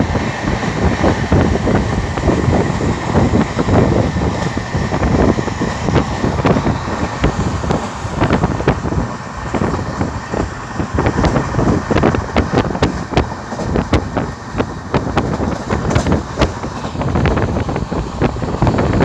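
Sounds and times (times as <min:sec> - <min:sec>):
train wheels rumbling on track: 0:00.0 - 0:19.0
wind buffeting microphone: 0:00.0 - 0:19.0.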